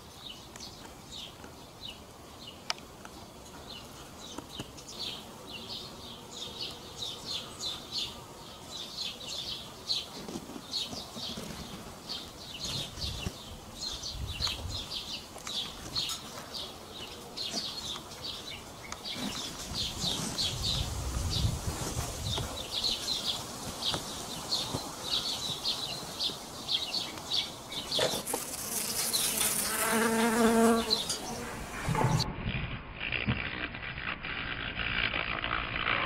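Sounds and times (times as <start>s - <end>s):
small birds chirping: 0.0s - 32.6s.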